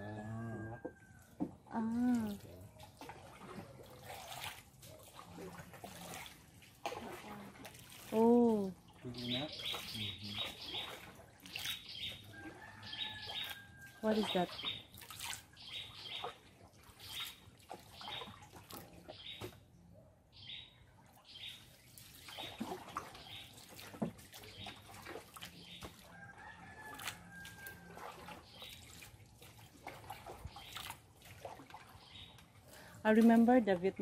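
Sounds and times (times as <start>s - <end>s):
water sounds: 0.0s - 19.9s, 20.6s - 34.0s.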